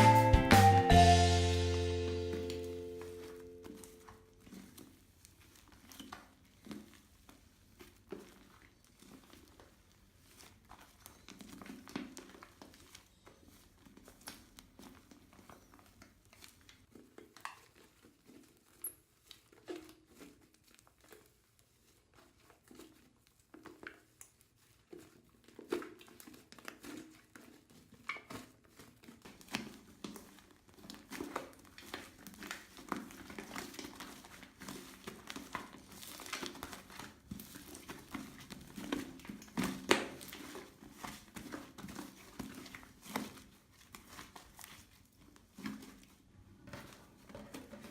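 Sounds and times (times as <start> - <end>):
slime clicking and crackling: 3.1 - 46.2.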